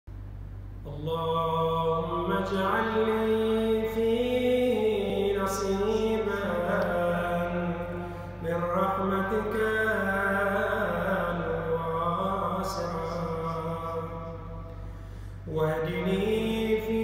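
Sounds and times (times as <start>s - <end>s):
man chanting melodic recitation: 0.9s - 14.6s, 15.5s - 17.0s.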